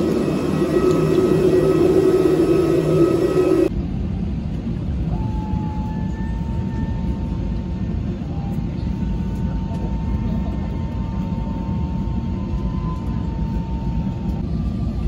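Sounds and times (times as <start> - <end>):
aircraft cabin rumble: 0.0 - 15.0
airliner low drone: 0.0 - 15.0
thin steady whine: 0.0 - 15.0.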